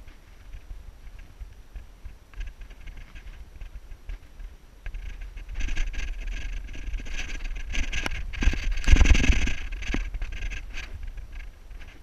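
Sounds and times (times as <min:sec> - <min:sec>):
clothing and gear rustling: 0:00.0 - 0:12.0
scattered clicks: 0:00.4 - 0:12.0.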